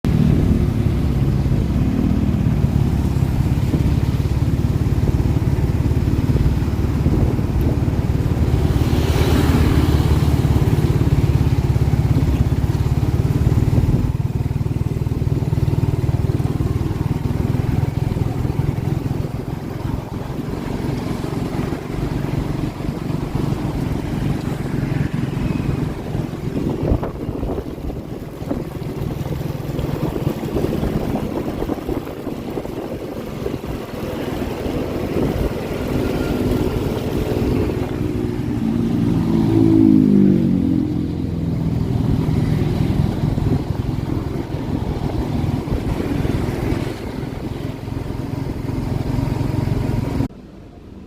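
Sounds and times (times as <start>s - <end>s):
motorcycle engine running: 0.0s - 50.3s.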